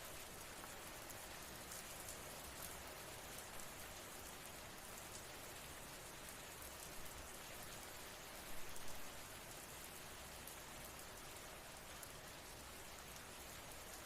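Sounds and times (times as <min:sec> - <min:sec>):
faint rain falling: 0:00.0 - 0:14.0.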